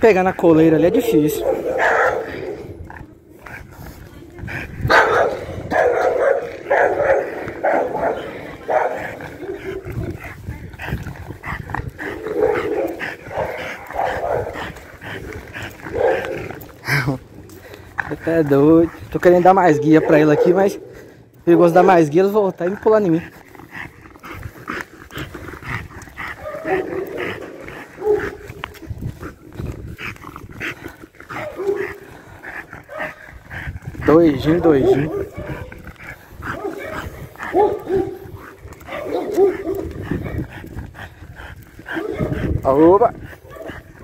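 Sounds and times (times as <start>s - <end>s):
dog barking and growling: 0.0s - 44.0s.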